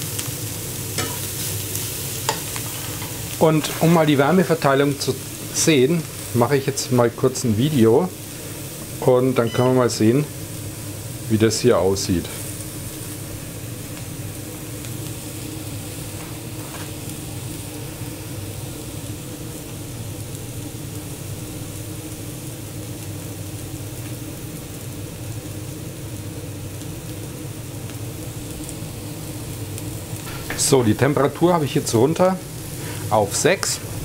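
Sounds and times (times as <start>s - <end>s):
mushrooms sizzling in a pan: 0.0s - 34.0s.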